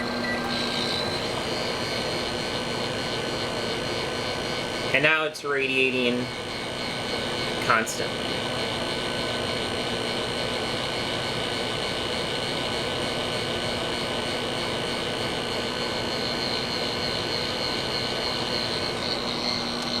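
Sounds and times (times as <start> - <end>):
microwave oven humming with whine: 0.0 - 20.0.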